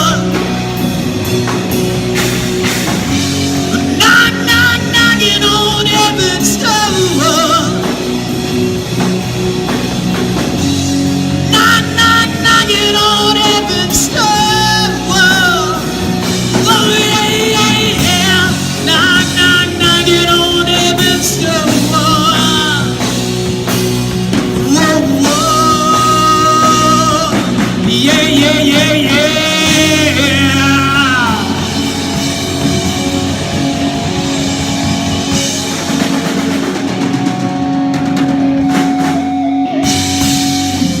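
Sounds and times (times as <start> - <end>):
electric guitar lead line: 0.0 - 41.0
live rock band playing: 0.0 - 41.0.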